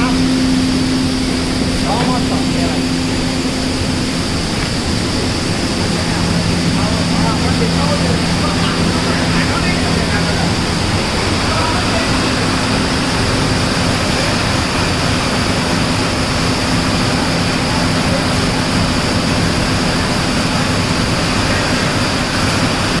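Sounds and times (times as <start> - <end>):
conveyor machinery running: 0.0 - 23.0.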